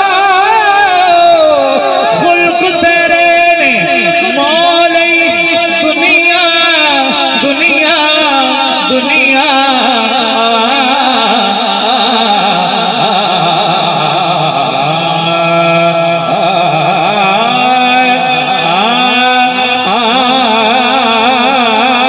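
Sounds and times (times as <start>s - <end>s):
man singing through pa system: 0.0s - 22.0s.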